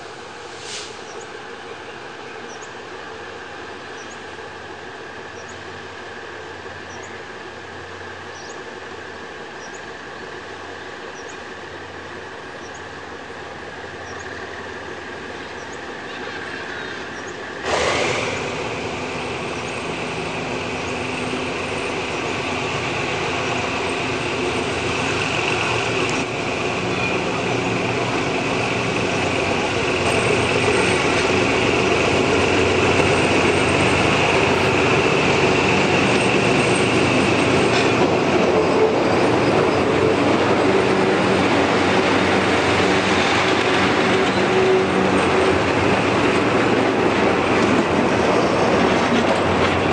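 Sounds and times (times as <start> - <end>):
train rumble: 0.0 - 49.9.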